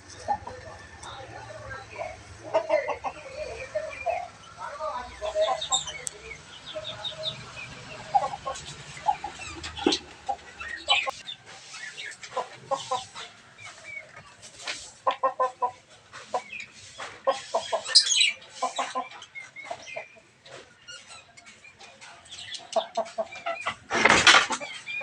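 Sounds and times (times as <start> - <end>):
chickens clucking: 0.0 - 25.0
high bird calls: 1.5 - 14.2, 16.3 - 23.9.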